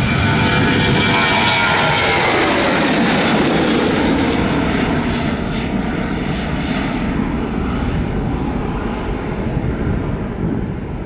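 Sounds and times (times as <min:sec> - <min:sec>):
jet airliner rumble at takeoff: 0:00.0 - 0:11.0.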